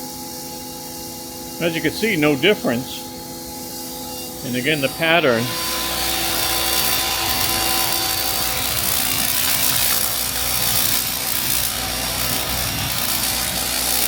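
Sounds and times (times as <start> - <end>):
pressure washer motor whine: 1.2 - 14.0.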